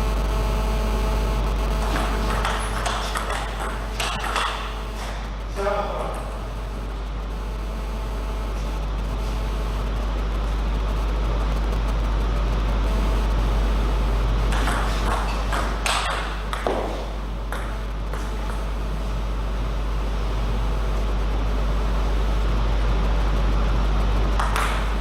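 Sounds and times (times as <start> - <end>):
low hum: 0.0 - 25.0
sports hall room noise: 1.3 - 25.0.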